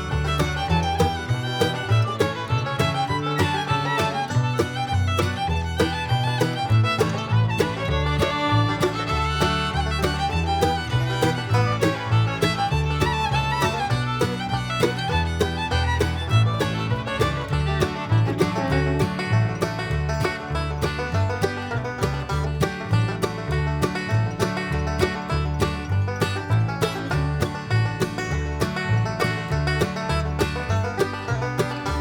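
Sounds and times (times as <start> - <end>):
bluegrass fiddle and banjo music: 0.0 - 32.0.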